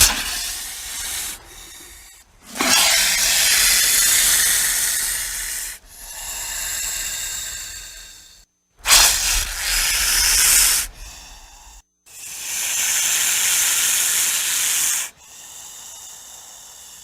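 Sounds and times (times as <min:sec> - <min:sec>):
snake hissing: 0:00.0 - 0:17.0.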